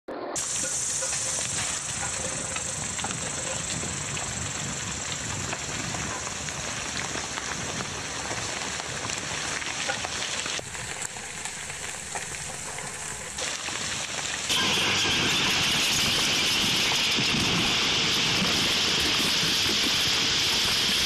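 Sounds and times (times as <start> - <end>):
soil and rocks sliding down slope: 0.4 - 21.0.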